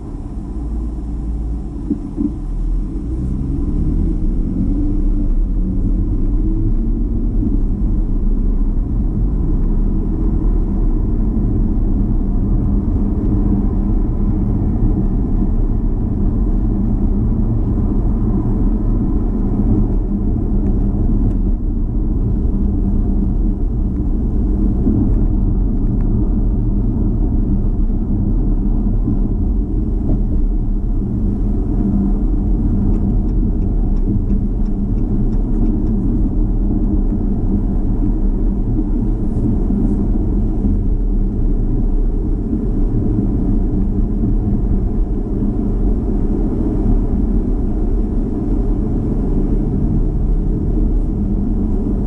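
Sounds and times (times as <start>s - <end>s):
car engine: 0.0s - 52.0s
road noise: 0.0s - 52.0s.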